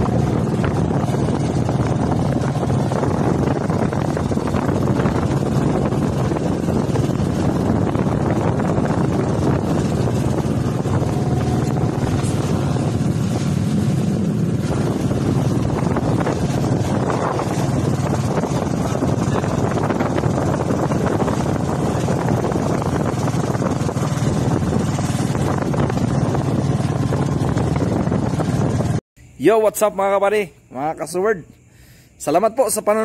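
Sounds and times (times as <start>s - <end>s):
boat engine running: 0.0s - 29.0s
water splashing along hull: 0.0s - 29.0s.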